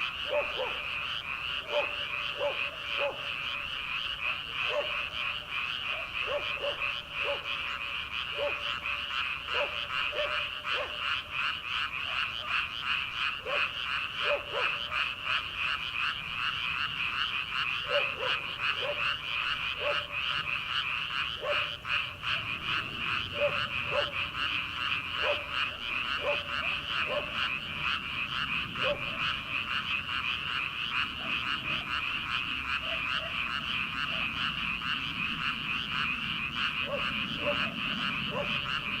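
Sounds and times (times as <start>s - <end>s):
frog chorus trilling: 0.0s - 39.0s
low frog croaks: 0.0s - 39.0s.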